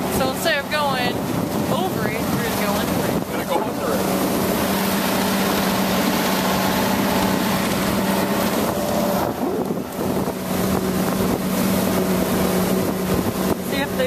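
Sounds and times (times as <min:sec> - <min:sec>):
motorboat engine humming: 0:00.0 - 0:14.0
wind on microphone: 0:00.0 - 0:14.0.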